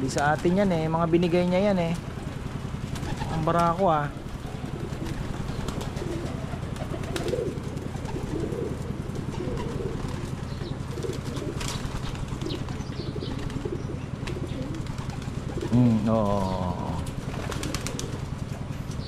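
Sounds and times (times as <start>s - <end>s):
pigeons cooing: 0.0s - 19.0s
steady low hum: 0.0s - 19.0s.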